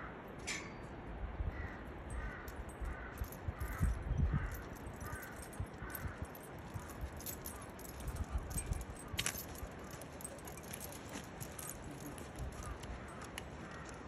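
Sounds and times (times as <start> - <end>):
metal chain leash jangling: 2.1 - 14.0.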